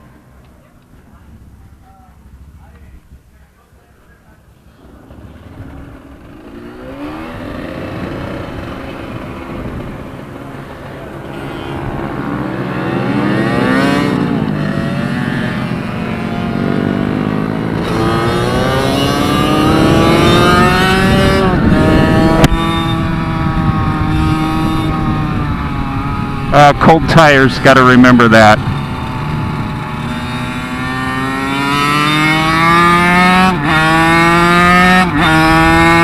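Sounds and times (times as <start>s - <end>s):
minibike engine accelerating: 4.6s - 36.0s.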